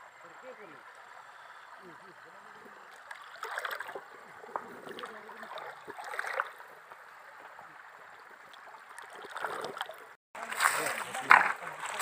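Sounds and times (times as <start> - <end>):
river water gurgling: 0.0 - 12.0.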